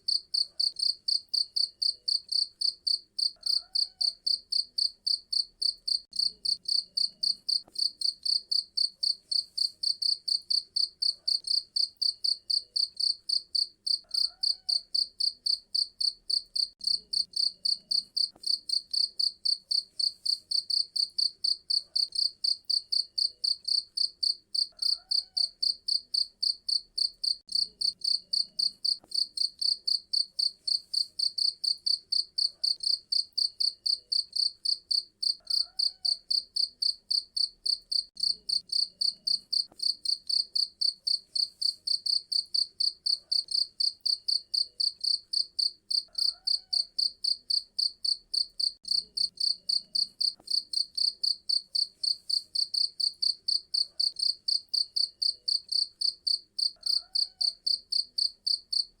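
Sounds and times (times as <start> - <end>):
cricket chirping: 0.1 - 58.9.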